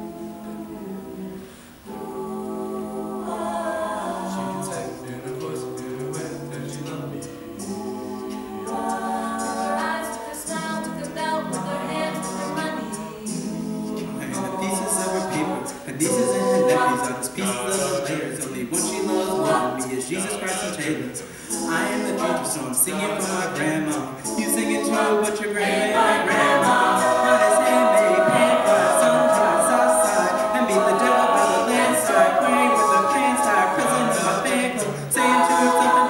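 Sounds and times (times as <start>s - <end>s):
a cappella group singing chords: 0.0s - 36.0s
vocal percussion: 0.9s - 36.0s.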